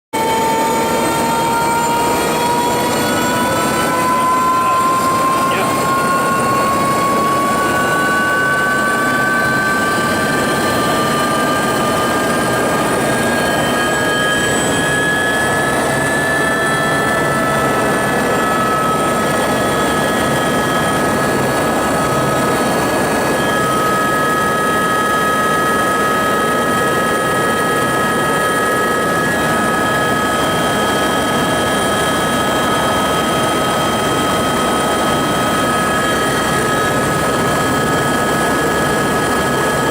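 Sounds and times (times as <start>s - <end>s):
helicopter rotor and engine noise: 0.1s - 39.9s
high turbine whine: 0.2s - 39.9s.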